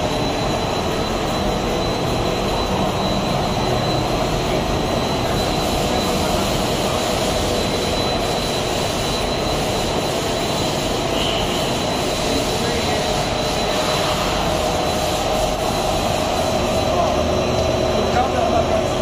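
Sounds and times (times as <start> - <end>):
machine rollers rushing and humming: 0.0 - 19.0
thin high whine: 0.0 - 19.0.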